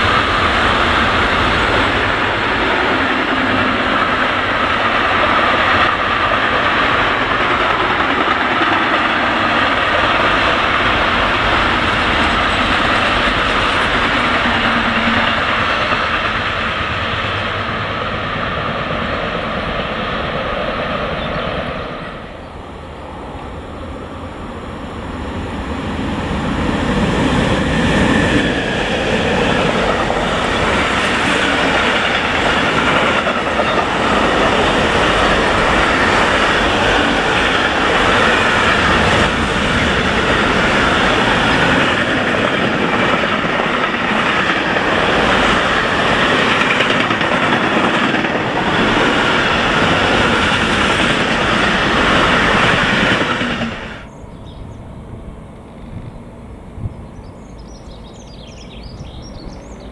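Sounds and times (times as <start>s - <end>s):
freight train wheels rolling on rails: 0.0s - 59.9s.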